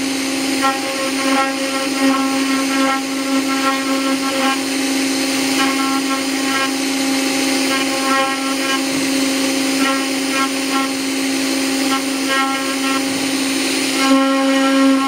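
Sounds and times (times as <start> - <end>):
bit cutting wood: 0.0 - 15.0
router spindle humming: 0.0 - 15.0.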